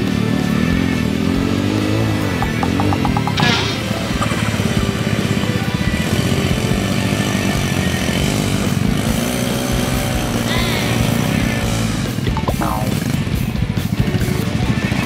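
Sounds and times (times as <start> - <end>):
small motorcycle engines revving: 0.0 - 15.0.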